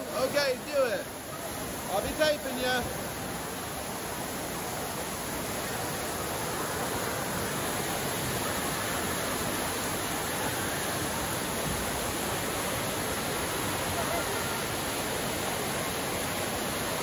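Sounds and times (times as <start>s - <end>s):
running and splashing water: 0.0s - 17.0s.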